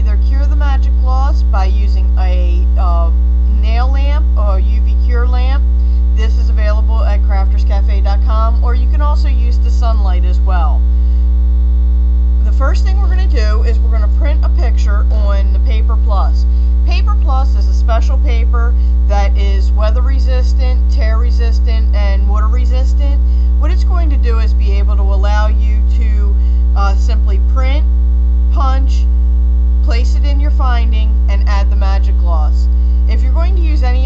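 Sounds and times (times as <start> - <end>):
loud electrical hum: 0.0 - 34.0.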